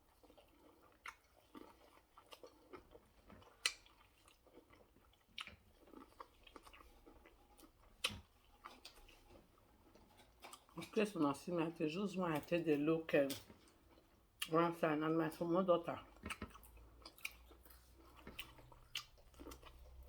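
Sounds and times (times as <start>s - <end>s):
person chewing food: 0.0s - 11.2s, 11.8s - 14.7s, 15.9s - 20.0s.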